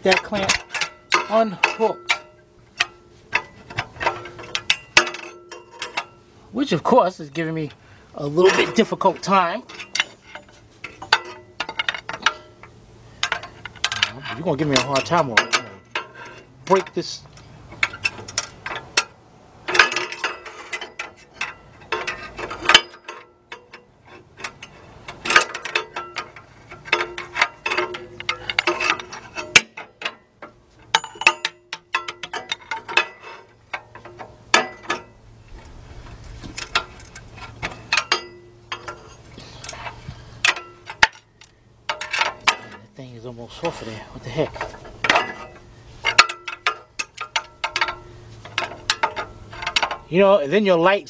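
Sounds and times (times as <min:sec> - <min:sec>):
steel tools clinking on metal: 0:00.0 - 0:06.2, 0:07.3 - 0:17.2, 0:19.7 - 0:35.2, 0:36.6 - 0:50.4.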